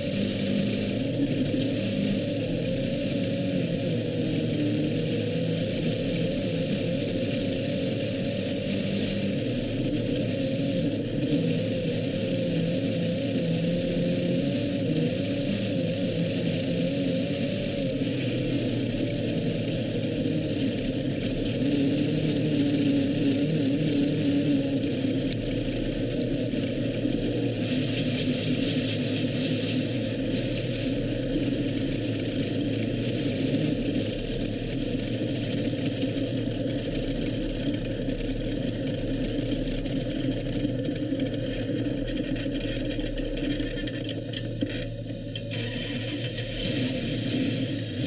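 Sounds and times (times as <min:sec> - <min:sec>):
engine running at low speed: 0:00.0 - 0:48.0.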